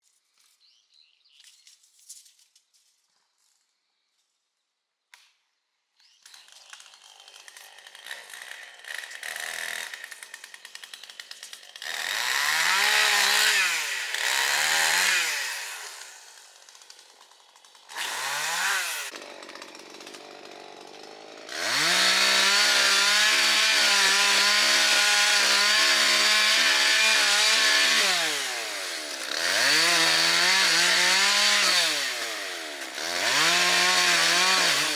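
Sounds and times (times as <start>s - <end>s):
chainsaw revving and cutting wood: 6.0s - 34.9s.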